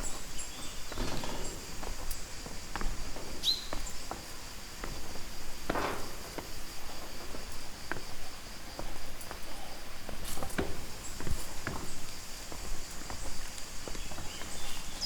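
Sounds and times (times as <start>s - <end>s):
foot scrape: 0.0s - 15.0s
footsteps on stone and earth: 0.0s - 15.0s
insects droning: 0.0s - 15.0s.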